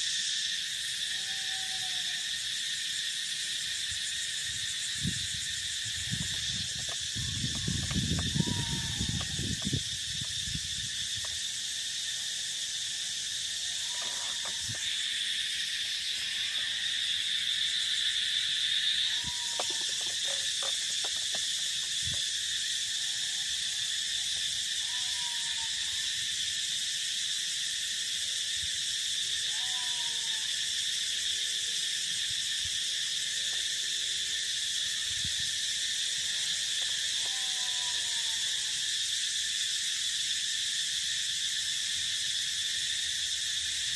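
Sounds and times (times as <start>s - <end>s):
crickets buzzing: 0.0s - 43.9s.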